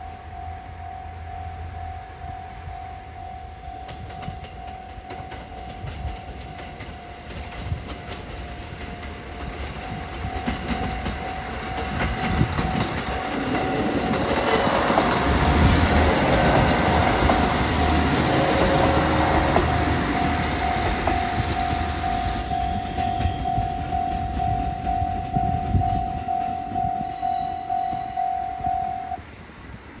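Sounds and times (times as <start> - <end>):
diesel railcar passing: 0.0 - 30.0.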